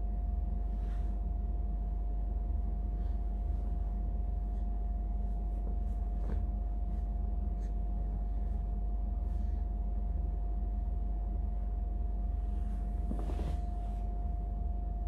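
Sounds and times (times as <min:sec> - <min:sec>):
steady low hum: 0:00.0 - 0:15.0
thin steady whine: 0:00.0 - 0:15.0
faint soft rustles: 0:00.2 - 0:14.6.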